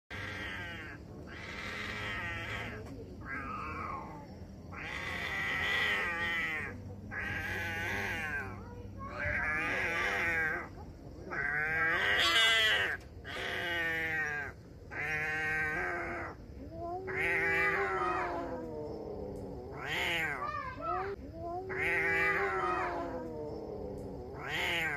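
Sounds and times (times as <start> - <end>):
cats yowling: 0.1 - 24.9.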